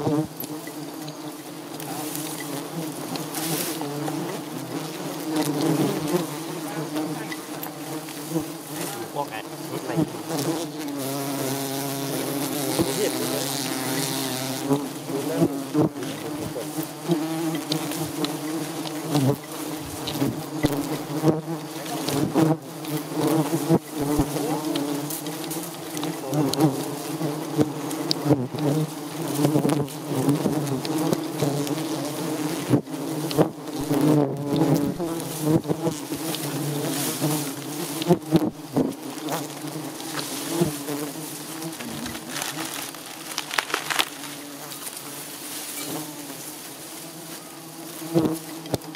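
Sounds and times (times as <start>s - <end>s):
bees buzzing in swarm: 0.0s - 48.9s.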